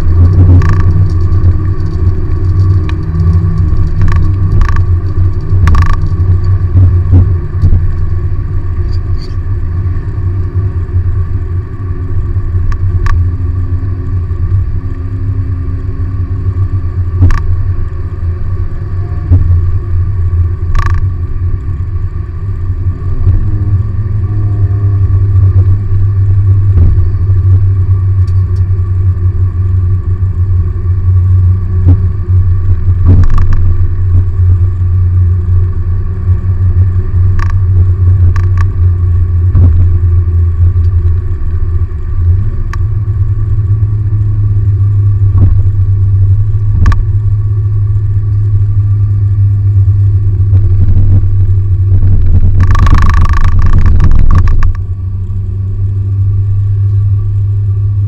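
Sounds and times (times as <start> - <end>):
car engine drone in cabin: 0.0 - 58.0
tyre noise on wet road: 0.0 - 58.0.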